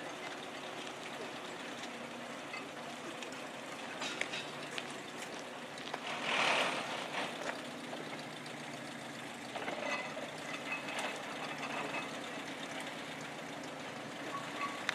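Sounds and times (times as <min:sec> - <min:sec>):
motor car engine idling: 0:00.0 - 0:14.9.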